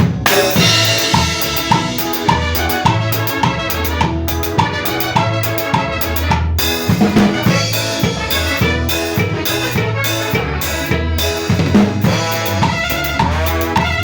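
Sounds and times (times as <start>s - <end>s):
band playing music: 0.0s - 14.0s
bass drum and snare hits: 0.0s - 14.0s.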